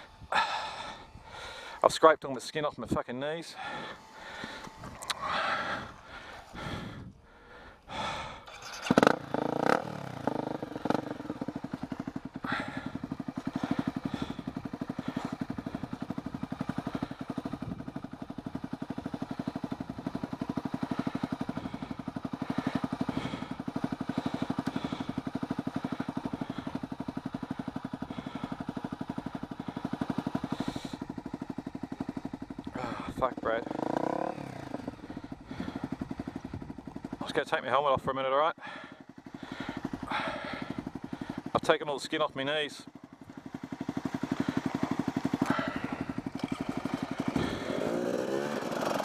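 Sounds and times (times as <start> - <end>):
dirt bike engine idling: 0.0 - 49.0
dirt bike engine burst and clatter: 7.9 - 37.5, 38.6 - 49.0.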